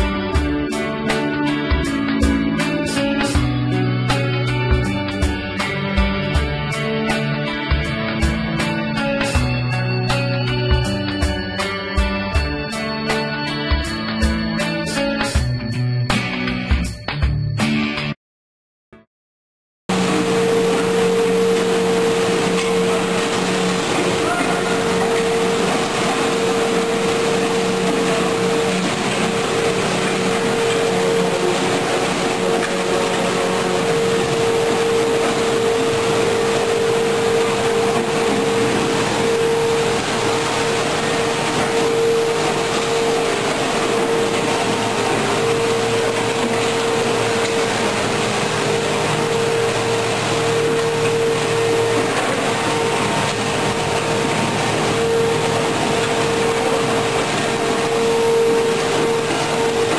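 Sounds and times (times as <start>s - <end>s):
tunnel construction machinery drone: 0.0s - 16.5s, 19.9s - 59.9s.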